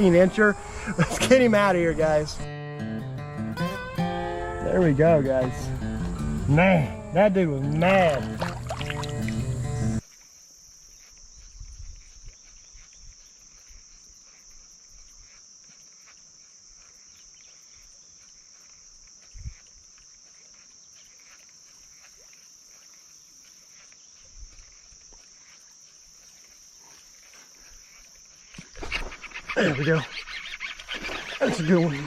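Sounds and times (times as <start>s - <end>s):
insects chorus: 0.0s - 2.5s, 3.4s - 32.0s.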